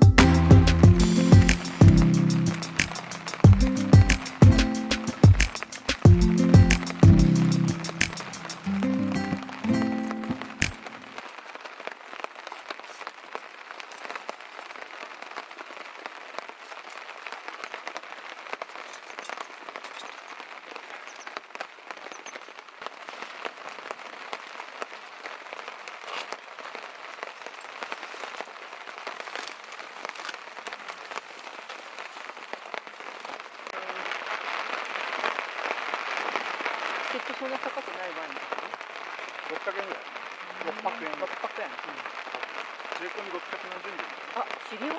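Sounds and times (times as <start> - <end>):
rain drops ticking on surface: 0.0 - 44.9.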